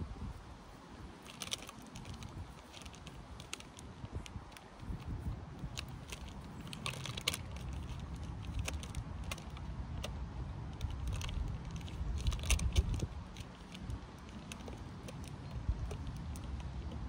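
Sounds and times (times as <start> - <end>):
light clicks and rustles: 0.3 - 17.0.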